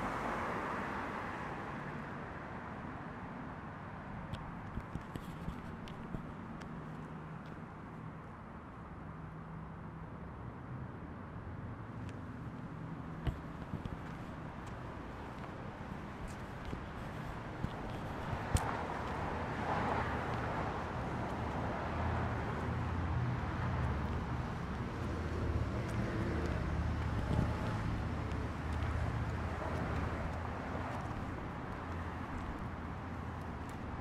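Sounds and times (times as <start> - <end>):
distant road traffic rumble: 0.0 - 34.0.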